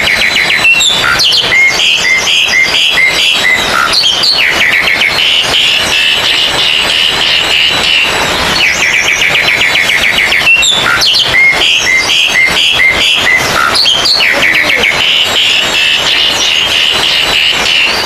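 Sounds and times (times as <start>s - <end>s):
birds singing: 0.0s - 18.0s
steady hubbub: 0.0s - 18.0s.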